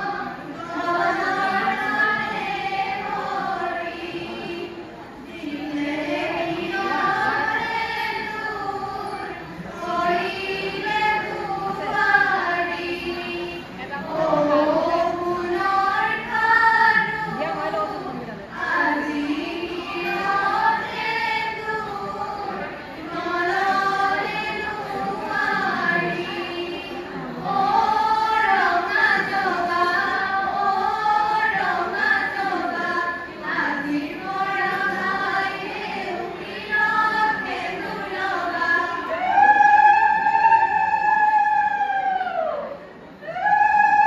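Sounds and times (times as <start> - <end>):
women singing together: 0.0 - 44.0.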